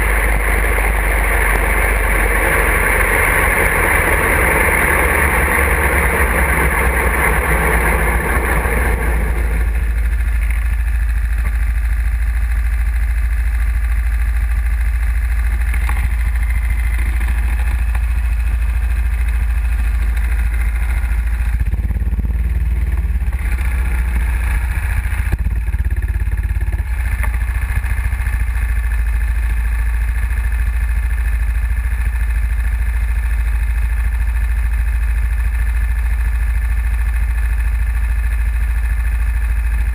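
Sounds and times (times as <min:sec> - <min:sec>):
camera vibration rumble: 0:00.0 - 0:36.4
go-kart engine: 0:00.0 - 0:39.9.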